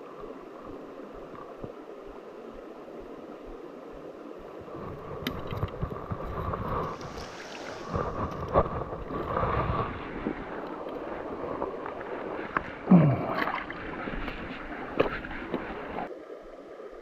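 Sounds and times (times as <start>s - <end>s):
creek water running over rocks: 0.0s - 17.0s.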